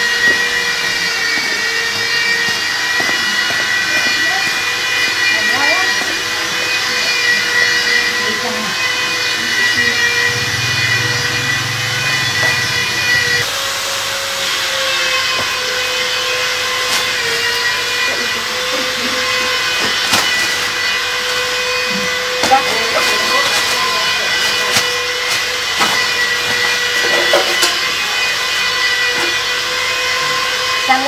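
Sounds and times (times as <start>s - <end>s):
small motor whining: 0.0s - 31.0s.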